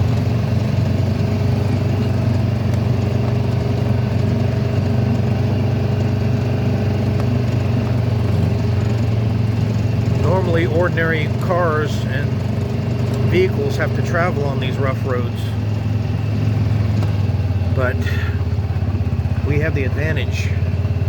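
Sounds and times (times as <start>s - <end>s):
utility vehicle engine running: 0.0s - 21.0s.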